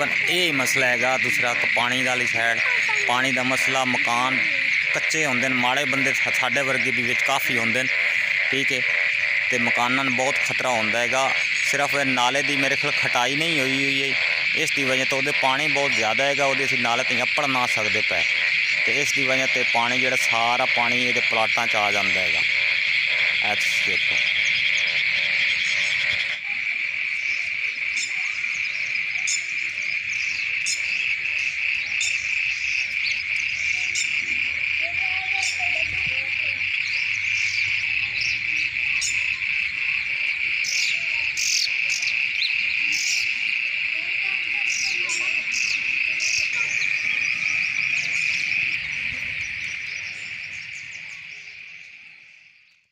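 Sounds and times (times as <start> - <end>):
insect chorus trilling: 0.0 - 52.9.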